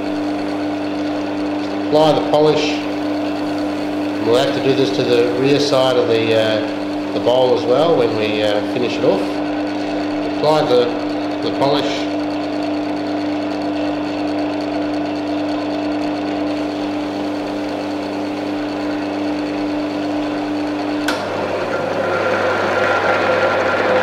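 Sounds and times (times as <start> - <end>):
wood lathe motor hum: 0.0 - 24.0
lathe click: 0.2 - 1.9, 2.8 - 24.0.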